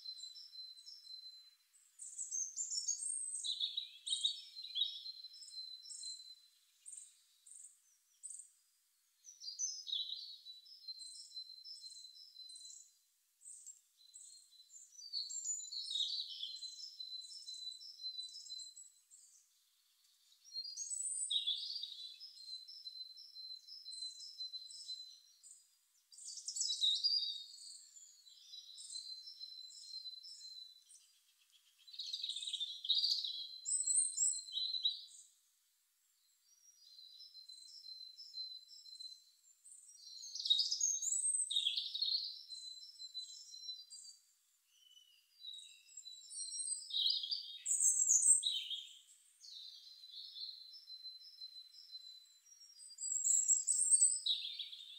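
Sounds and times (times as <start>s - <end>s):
songbird chirping and trilling: 0.0s - 35.4s, 36.2s - 54.9s.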